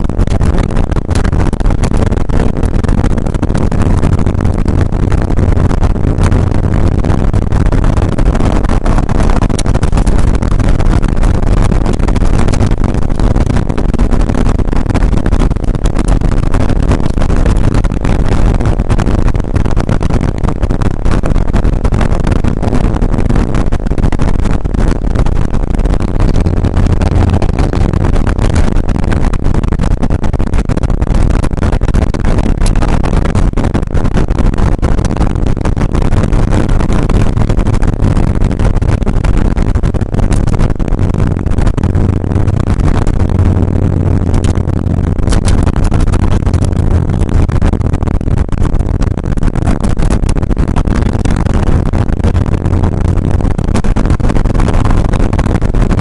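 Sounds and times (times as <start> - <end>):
car engine running loud: 0.0 - 56.0
road and tyre noise: 0.0 - 56.0.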